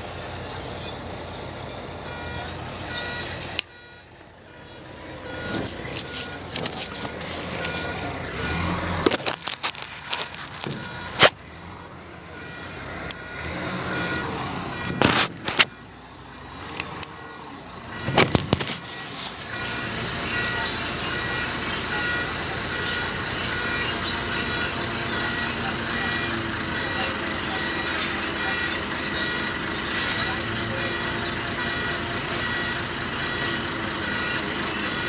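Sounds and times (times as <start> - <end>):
excavator working: 0.0 - 35.0
repeating warning beep: 0.4 - 35.0.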